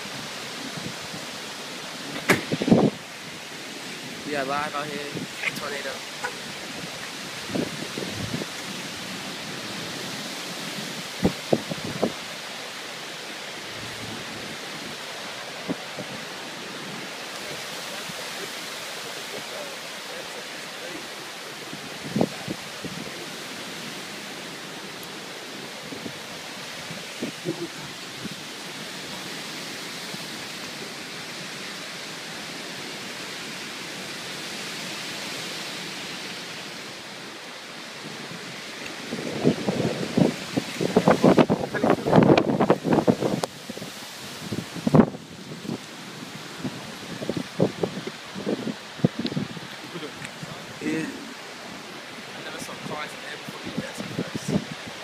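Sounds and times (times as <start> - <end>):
stormy weather rushing: 0.0 - 55.0.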